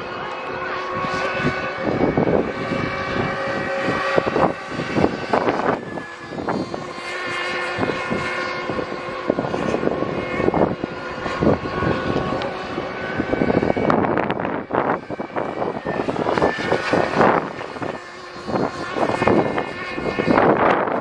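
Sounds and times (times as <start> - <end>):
model boat engine buzzing: 0.0 - 21.0.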